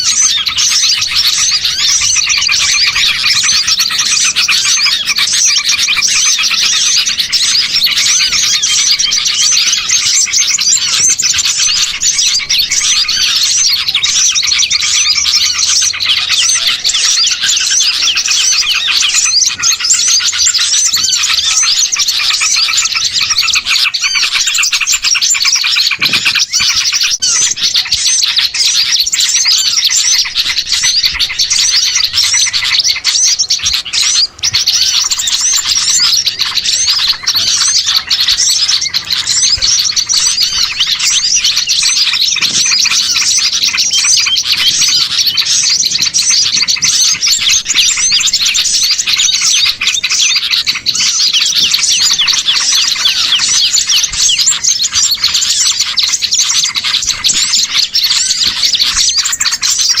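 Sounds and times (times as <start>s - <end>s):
songbirds chattering and chirping: 0.0s - 60.0s.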